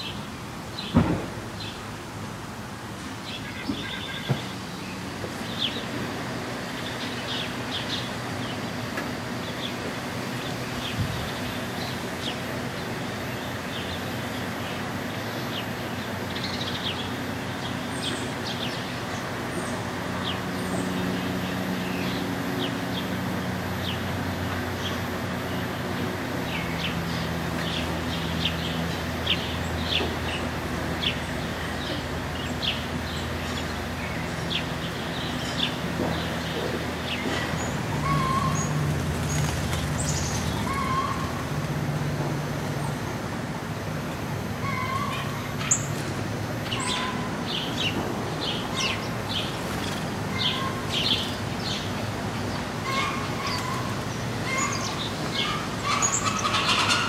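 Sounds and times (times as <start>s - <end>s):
distant engine drone: 0.0s - 57.0s.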